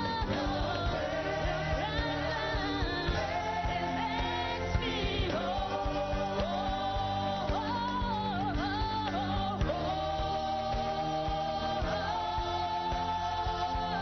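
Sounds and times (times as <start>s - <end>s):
worship singing over a band: 0.0s - 14.0s.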